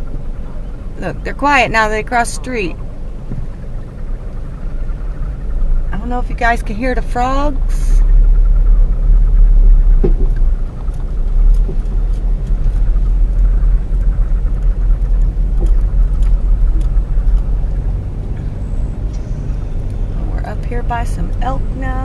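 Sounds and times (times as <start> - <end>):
car interior rumble: 0.0 - 22.0.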